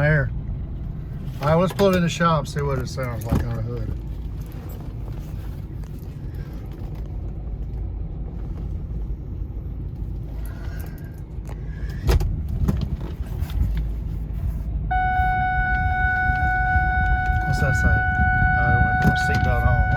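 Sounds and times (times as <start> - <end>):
truck engine low rumble: 0.0 - 19.9.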